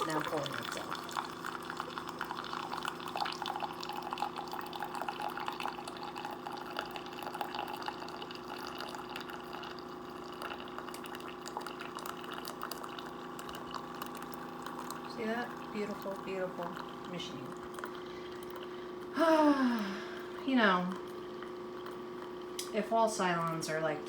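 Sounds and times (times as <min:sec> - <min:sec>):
coffee trickling into cup: 0:00.0 - 0:23.6
coffee machine pump hum: 0:00.0 - 0:24.0.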